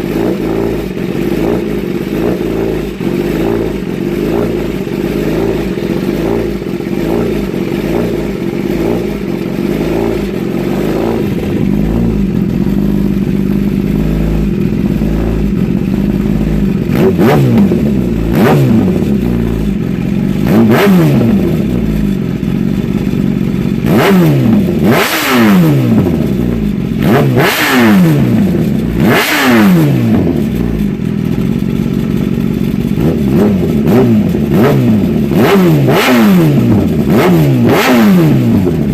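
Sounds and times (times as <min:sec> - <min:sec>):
motorcycle engine idling: 0:00.0 - 0:38.9
motorcycle throttle blips: 0:00.0 - 0:38.9.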